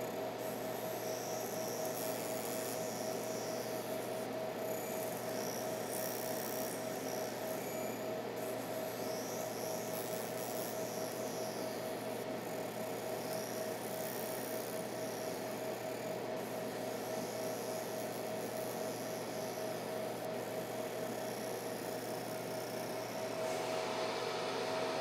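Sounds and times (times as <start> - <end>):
laser machine humming: 0.0 - 25.0.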